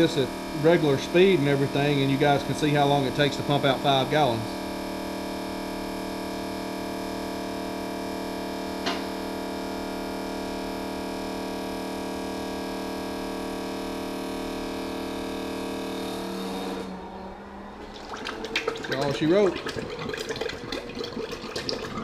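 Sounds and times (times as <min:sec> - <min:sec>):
fuel pump humming: 0:00.0 - 0:22.0.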